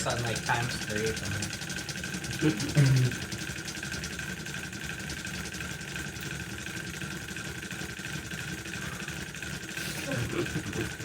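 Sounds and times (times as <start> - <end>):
rapid gear ticking: 0.0 - 11.0.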